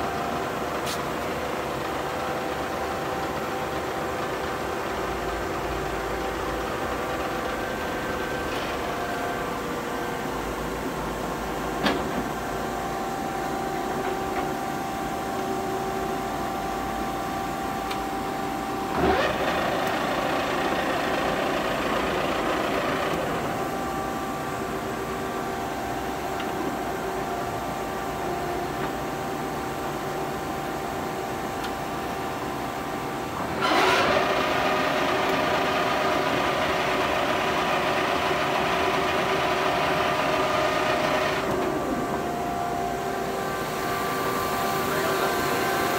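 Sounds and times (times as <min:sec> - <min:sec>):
lathe running with mechanical hum: 0:00.0 - 0:45.9.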